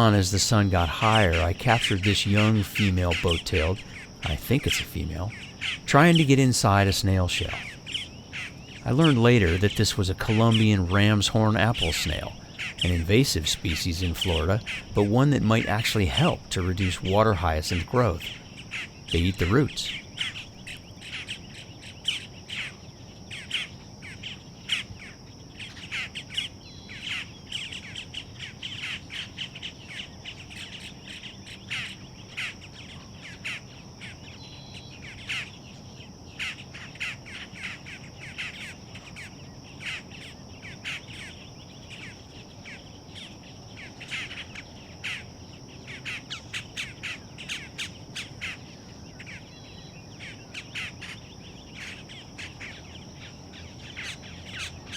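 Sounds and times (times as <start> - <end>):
birds calling: 0.0 - 54.9.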